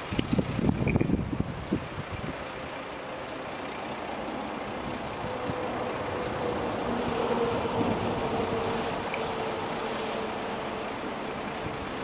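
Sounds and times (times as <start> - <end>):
diesel railcar engine running: 0.0 - 12.0.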